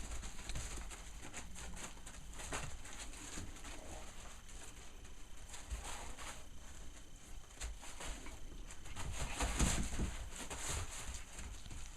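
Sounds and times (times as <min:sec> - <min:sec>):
puppies scuffling: 0:00.0 - 0:11.9.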